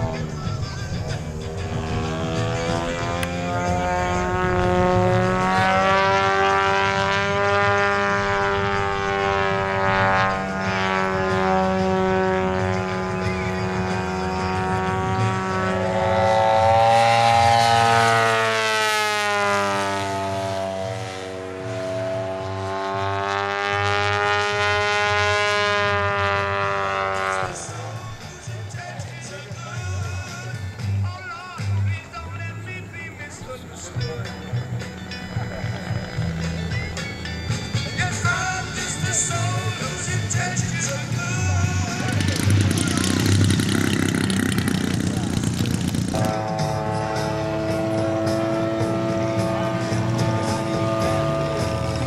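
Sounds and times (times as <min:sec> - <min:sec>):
model plane engine and propeller: 0:00.0 - 0:30.4, 0:32.7 - 0:52.0.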